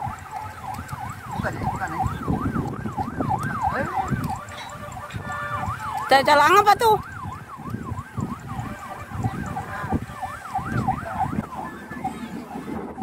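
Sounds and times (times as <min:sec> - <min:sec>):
electronic siren yelping: 0:00.0 - 0:13.0.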